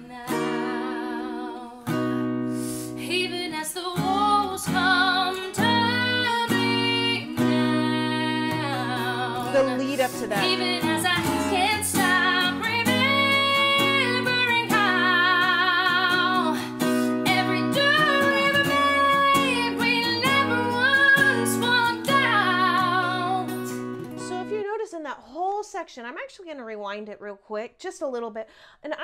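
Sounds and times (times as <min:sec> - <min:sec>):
woman singing a ballad: 0:00.0 - 0:24.6
acoustic guitar: 0:00.0 - 0:24.9.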